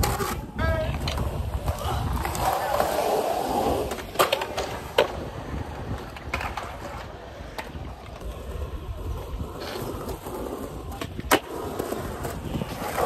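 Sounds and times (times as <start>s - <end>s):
skateboard clacking on ground: 0.0s - 13.0s
skateboard wheels rolling on concrete: 0.0s - 13.0s.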